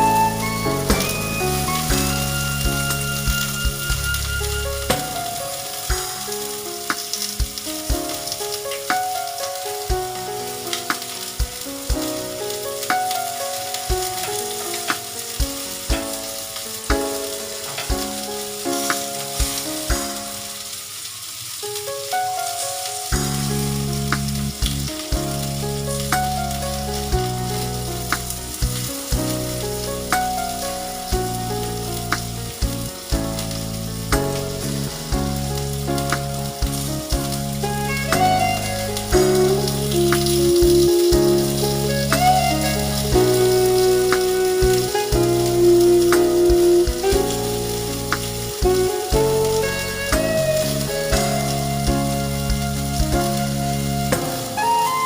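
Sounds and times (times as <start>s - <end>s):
food sizzling in a pan: 0.0s - 55.0s
soft background music: 0.0s - 55.0s.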